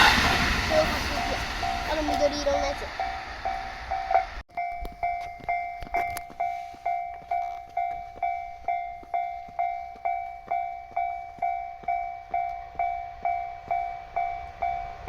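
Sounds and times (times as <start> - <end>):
level crossing alarm bell: 1.1 - 15.0.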